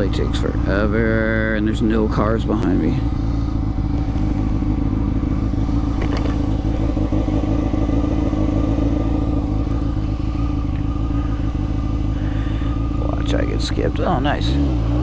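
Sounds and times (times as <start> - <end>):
motorcycle engine idling: 0.0 - 14.8.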